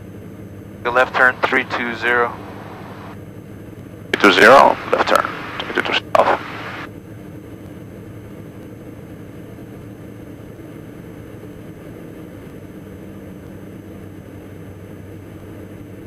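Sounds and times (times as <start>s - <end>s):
aircraft engines droning: 0.1s - 15.9s.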